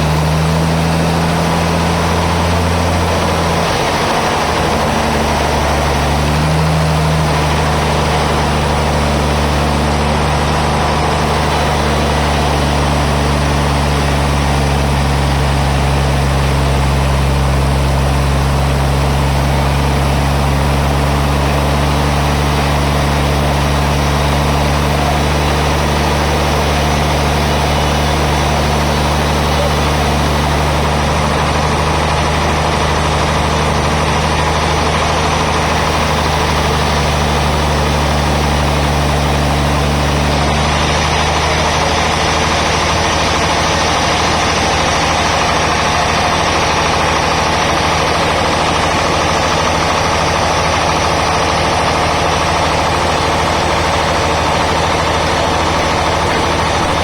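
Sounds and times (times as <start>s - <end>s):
band saw machinery humming: 0.0s - 57.0s.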